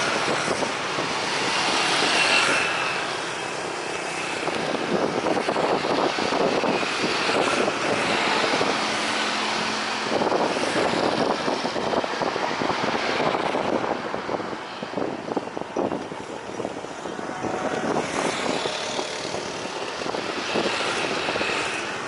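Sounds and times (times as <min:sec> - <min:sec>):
propeller aircraft engine: 0:00.0 - 0:22.0.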